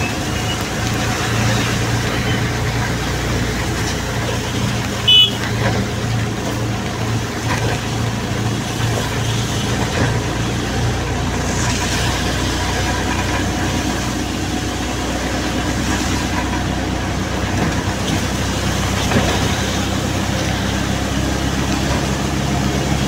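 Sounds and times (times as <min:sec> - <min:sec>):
auto-rickshaw engine running: 0:00.0 - 0:23.0
hiss from wet road: 0:00.0 - 0:23.0.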